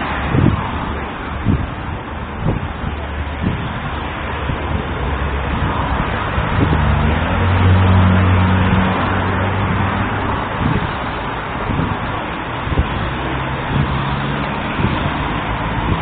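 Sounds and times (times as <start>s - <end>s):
car engine passing: 0.0s - 16.0s
street noise: 0.0s - 16.0s.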